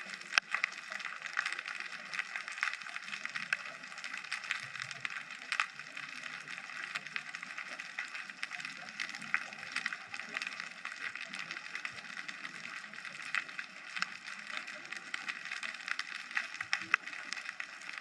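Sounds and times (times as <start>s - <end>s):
underwater crackle of clicks: 0.0s - 18.0s.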